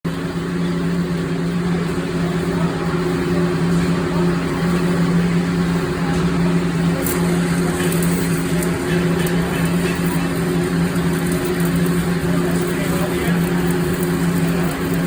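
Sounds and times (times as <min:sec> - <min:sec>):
welding machine hum: 0:00.1 - 0:15.0
welding arc crackling hiss: 0:01.8 - 0:15.0.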